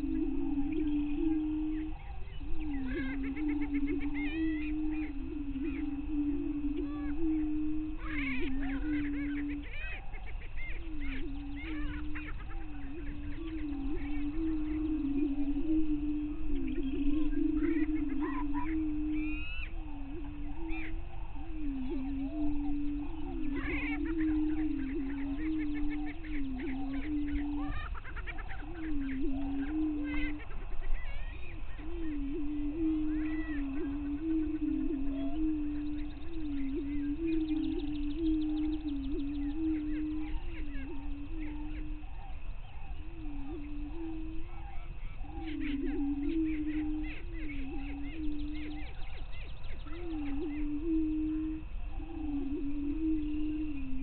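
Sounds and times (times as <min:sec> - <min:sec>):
birds cackling and whooping: 0:00.0 - 0:54.0
prairie chickens booming: 0:00.0 - 0:54.0.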